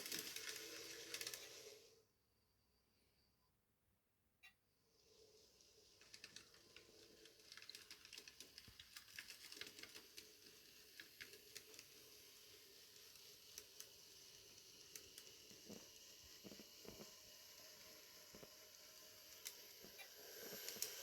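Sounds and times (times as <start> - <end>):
model train running on track: 0.0 - 1.9, 5.4 - 21.0.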